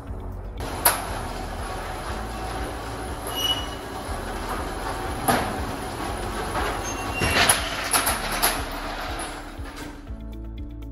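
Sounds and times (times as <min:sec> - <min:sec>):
shutter clattering: 0:00.6 - 0:10.1
metal roller shutter rattling: 0:00.6 - 0:10.2.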